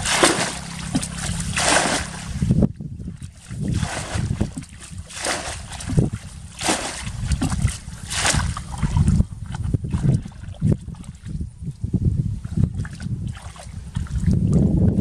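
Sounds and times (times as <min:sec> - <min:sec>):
water splashing from a bucket: 0:00.0 - 0:11.4, 0:12.4 - 0:14.6
constant low rumble: 0:00.0 - 0:15.0.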